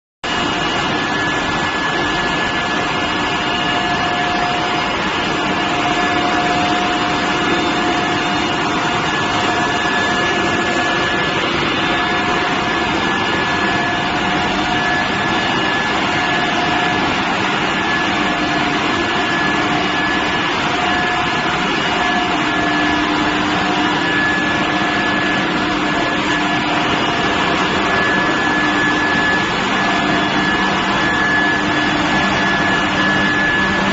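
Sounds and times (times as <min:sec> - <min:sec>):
furnace hissing and whining: 0:00.3 - 0:33.9.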